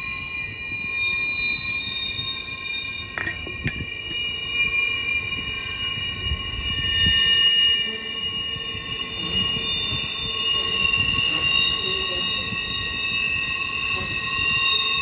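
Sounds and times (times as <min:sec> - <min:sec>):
low rumble of rolling train cars: 0:00.0 - 0:15.0
train wheels squealing on rails: 0:00.0 - 0:15.0.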